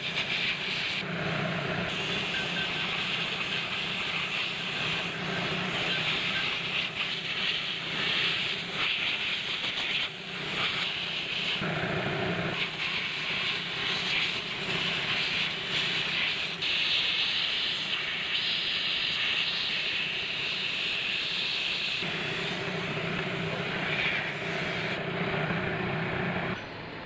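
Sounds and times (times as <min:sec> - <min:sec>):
jet of air hissing: 0:00.0 - 0:26.6.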